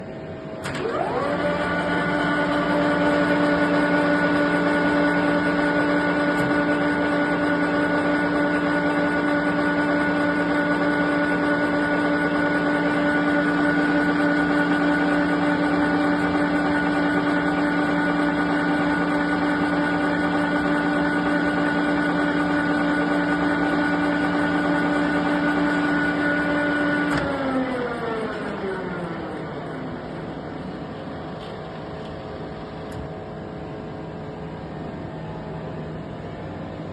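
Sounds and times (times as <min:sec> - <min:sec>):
machine whining: 0:00.0 - 0:36.8.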